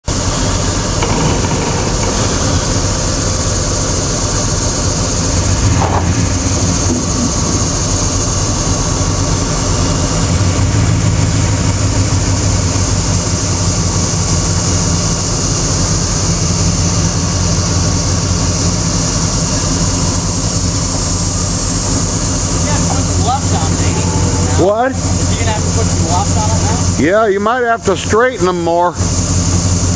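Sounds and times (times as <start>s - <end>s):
even hiss: 0.0s - 29.9s
heavy vehicle engine running: 0.0s - 29.9s.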